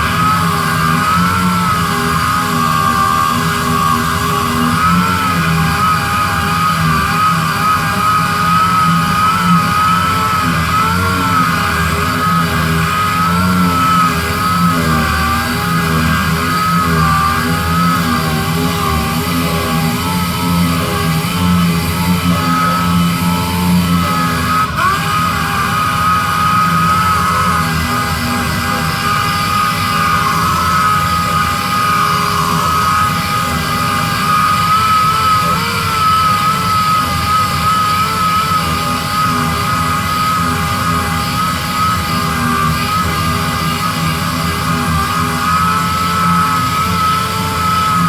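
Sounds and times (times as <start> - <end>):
power sander running: 0.0 - 48.0.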